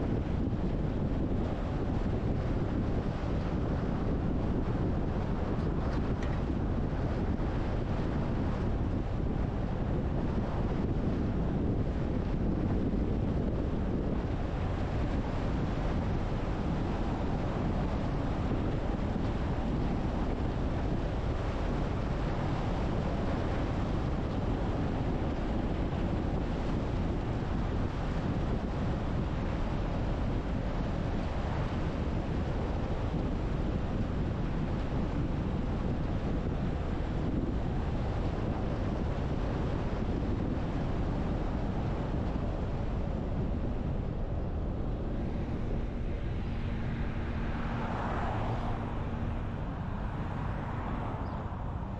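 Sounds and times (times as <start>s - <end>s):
wind noise on microphone: 0.0s - 51.9s.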